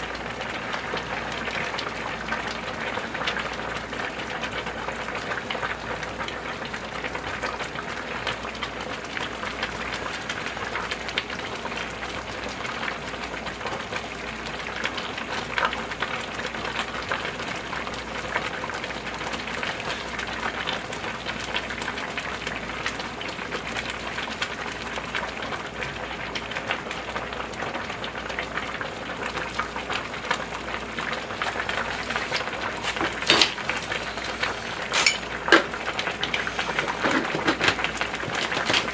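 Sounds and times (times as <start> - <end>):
soup boiling and bubbling: 0.0 - 38.9.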